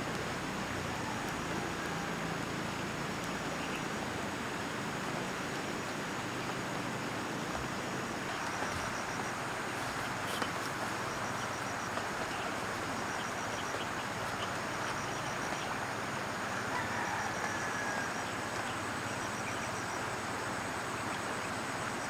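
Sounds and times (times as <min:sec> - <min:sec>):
river flowing: 0:00.0 - 0:22.0
insects chirping in trills: 0:00.6 - 0:22.0.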